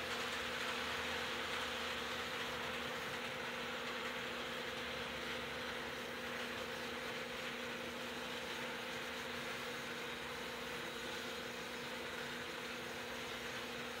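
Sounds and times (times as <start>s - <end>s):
model train motors whirring: 0.0s - 14.0s.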